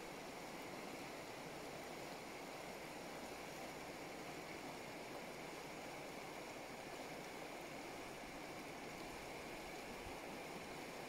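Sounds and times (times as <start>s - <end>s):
river running over rocks: 0.0s - 11.0s.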